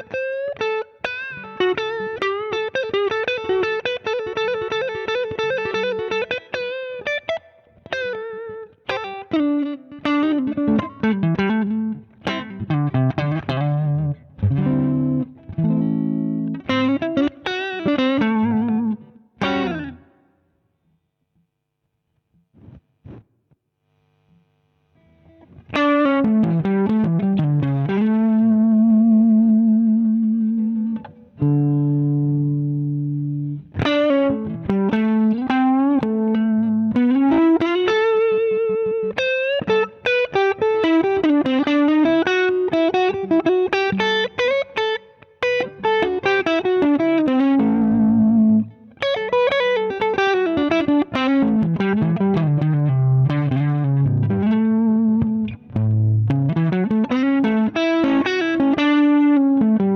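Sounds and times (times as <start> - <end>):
overdriven electric guitar: 0.0 - 20.6, 24.2 - 59.9.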